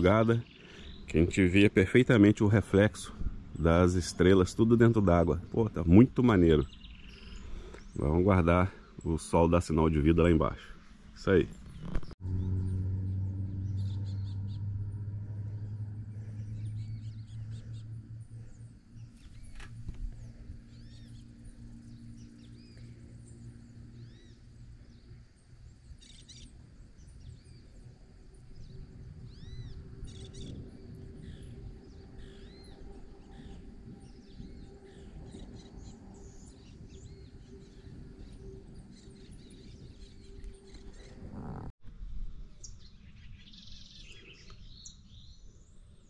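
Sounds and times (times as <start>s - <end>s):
birds chirping and trilling: 0.0s - 41.7s, 42.6s - 46.0s
low steady hum: 0.0s - 41.8s.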